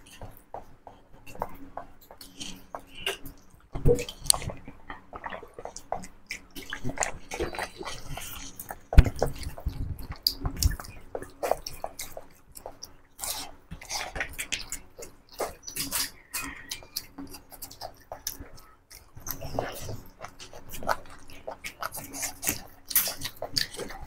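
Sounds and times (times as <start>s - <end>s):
wet chewing and smacking: 0.0s - 24.0s.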